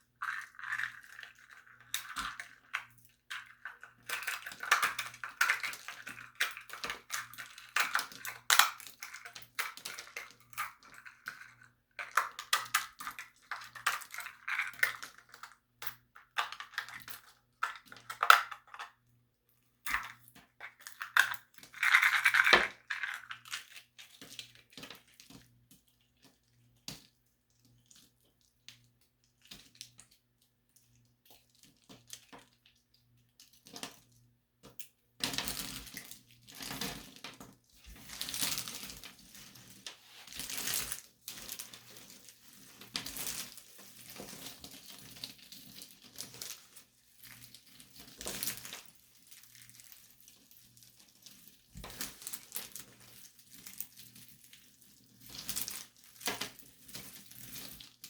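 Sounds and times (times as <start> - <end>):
plaster tiles crackling and crunching: 0.1 - 19.0, 19.8 - 58.0.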